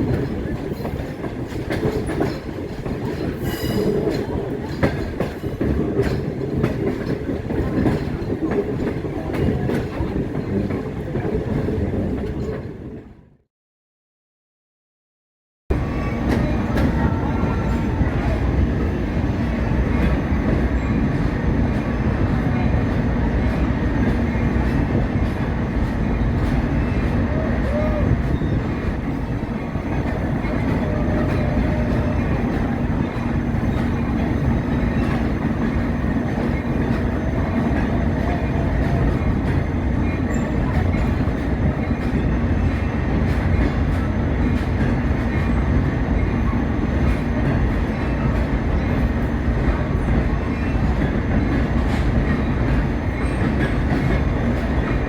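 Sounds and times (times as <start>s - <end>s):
diesel locomotive running: 0.0s - 13.2s, 15.7s - 55.0s
train wheels on rails: 0.0s - 13.2s, 15.7s - 55.0s.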